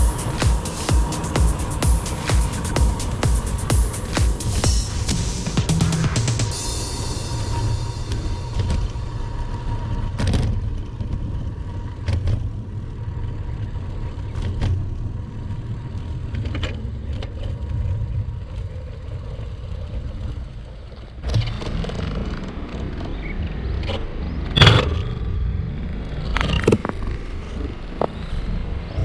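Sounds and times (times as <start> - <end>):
bicycle road noise: 0.0 - 29.0
wind rumble: 0.0 - 29.0.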